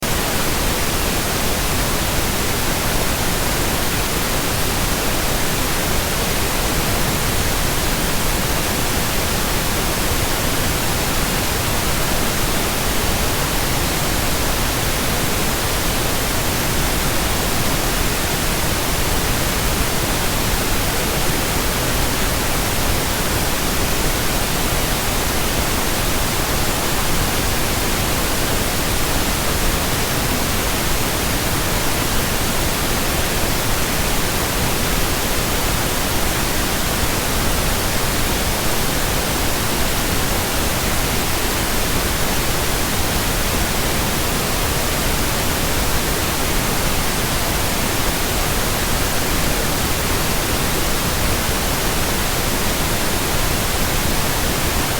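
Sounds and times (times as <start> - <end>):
pink noise hiss: 0.0 - 54.9.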